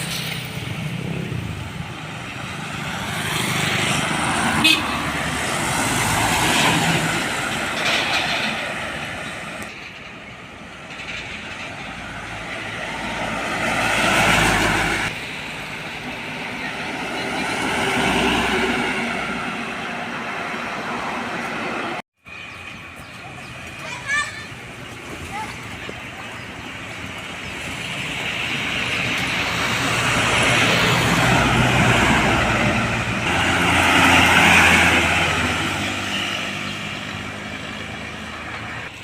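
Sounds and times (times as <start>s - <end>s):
heavy trucks passing: 0.0s - 39.0s.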